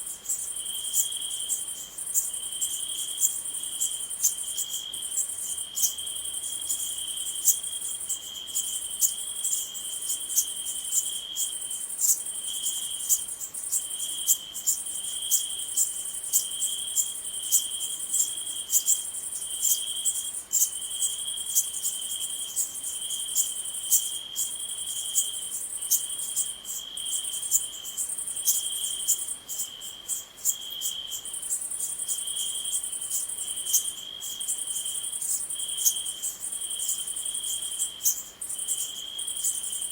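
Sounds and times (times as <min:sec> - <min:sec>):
cricket trilling: 0:00.0 - 0:39.9
high insect buzz: 0:00.0 - 0:39.9
insect ticks: 0:00.0 - 0:39.9.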